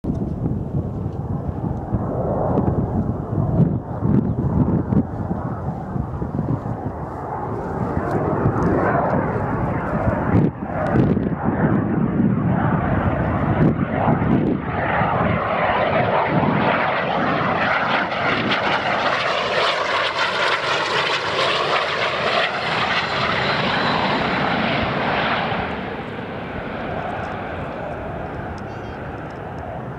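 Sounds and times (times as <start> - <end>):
jet passing low overhead: 0.1 - 29.9.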